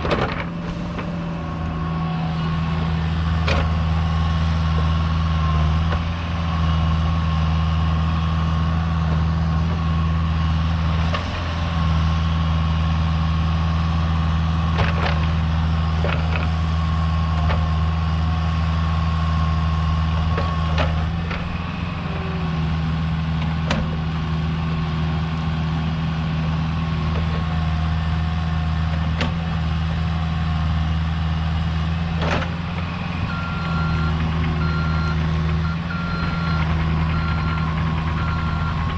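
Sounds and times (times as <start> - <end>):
heavy equipment diesel engine: 0.0 - 38.9.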